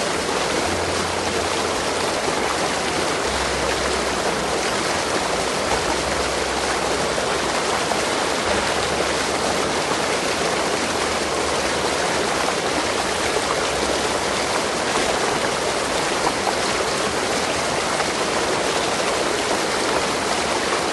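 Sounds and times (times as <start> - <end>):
running water rushing: 0.0 - 20.9.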